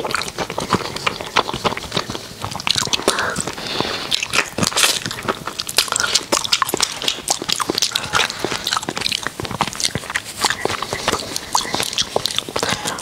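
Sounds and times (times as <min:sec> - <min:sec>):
crunchy food chewing: 0:00.0 - 0:13.0.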